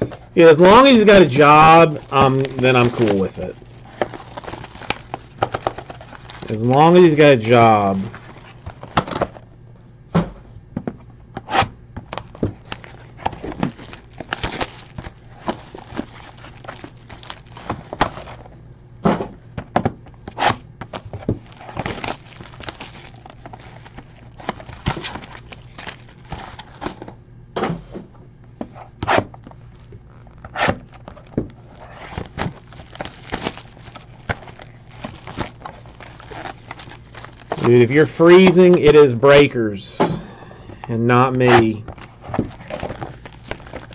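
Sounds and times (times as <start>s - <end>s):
foil and plastic wrap crinkling: 0.0s - 9.4s, 12.0s - 18.6s, 20.3s - 27.1s, 29.4s - 39.5s, 41.2s - 43.9s.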